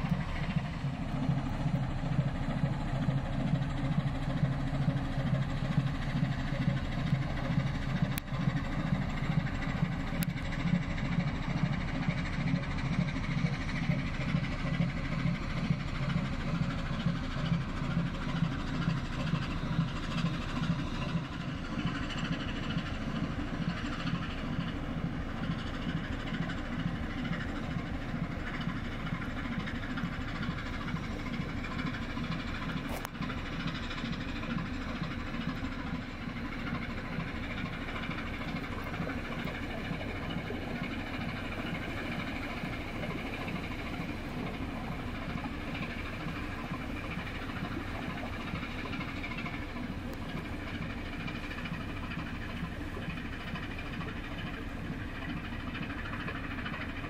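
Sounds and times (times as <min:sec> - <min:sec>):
hiss of hull wash: 0:00.0 - 0:57.0
ship diesel engine throbbing: 0:00.0 - 0:57.0.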